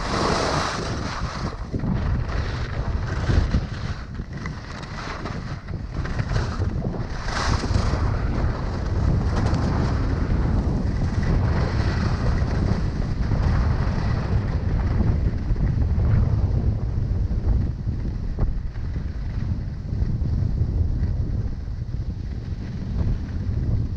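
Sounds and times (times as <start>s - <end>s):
skis carving on hard snow: 0.0s - 23.9s
wind buffeting microphone: 0.0s - 23.9s.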